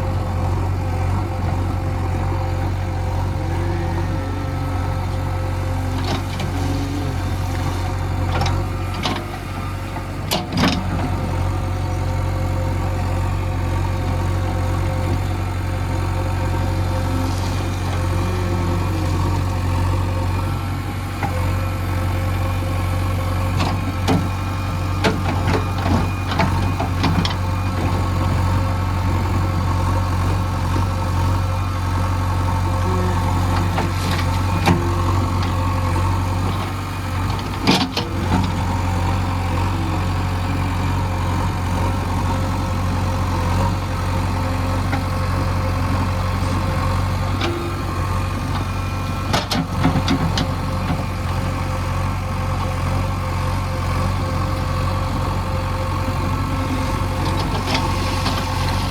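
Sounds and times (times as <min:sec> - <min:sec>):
heavy machinery diesel engine: 0:00.0 - 0:58.9.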